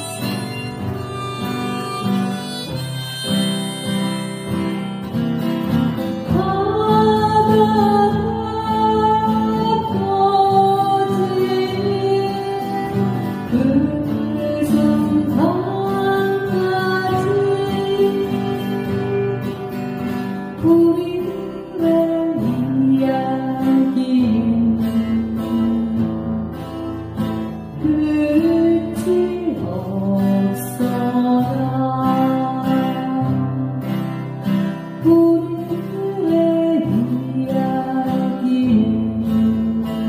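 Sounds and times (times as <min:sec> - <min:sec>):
woman singing: 0:00.0 - 0:03.8, 0:05.8 - 0:40.0
acoustic guitar chords: 0:00.0 - 0:40.0.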